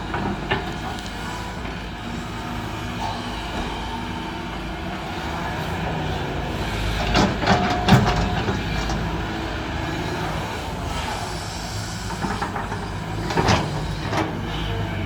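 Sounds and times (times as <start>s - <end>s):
dump truck engine rumbling and rattling: 0.0s - 15.0s.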